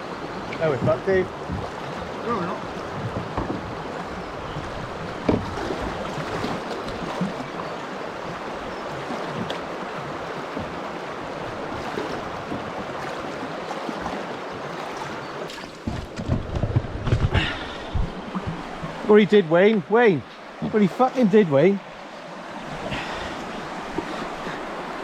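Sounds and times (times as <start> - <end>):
river water rushing: 0.0 - 16.2, 16.9 - 25.0.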